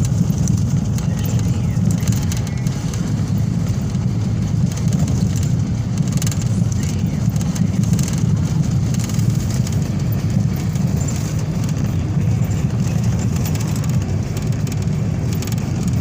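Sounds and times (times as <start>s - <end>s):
car driving on highway: 0.0s - 16.0s.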